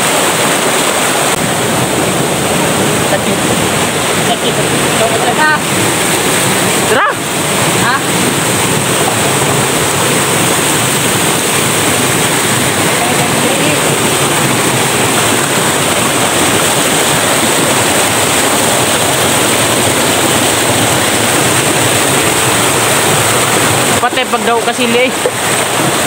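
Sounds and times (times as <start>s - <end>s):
stream rushing over boulders: 0.0s - 26.0s.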